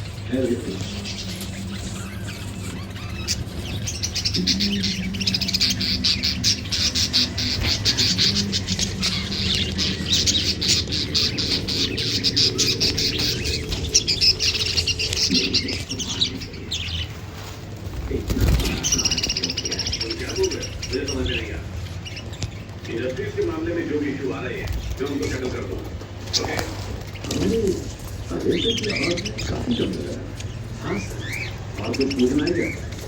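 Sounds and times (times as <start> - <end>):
caged birds chattering and chirping: 0.0 - 33.0
low steady hum: 0.0 - 33.0.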